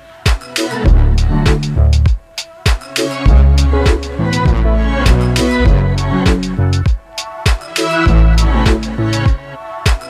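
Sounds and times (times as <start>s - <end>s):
music with beat and bass: 0.0s - 10.0s.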